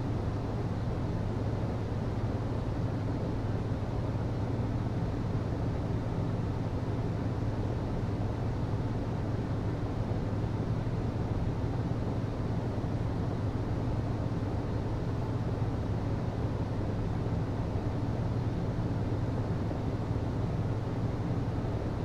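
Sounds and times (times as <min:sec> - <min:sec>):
hvac low hum: 0:00.0 - 0:22.0.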